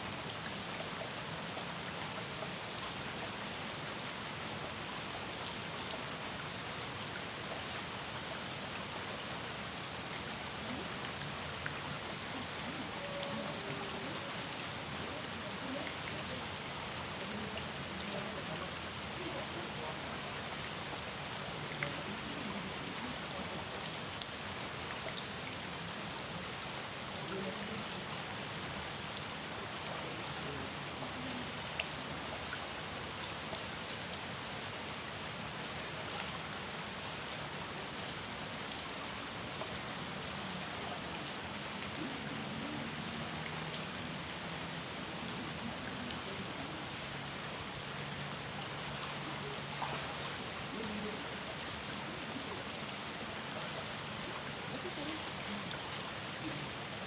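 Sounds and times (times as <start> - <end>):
rain falling on a pond: 0.0 - 57.0.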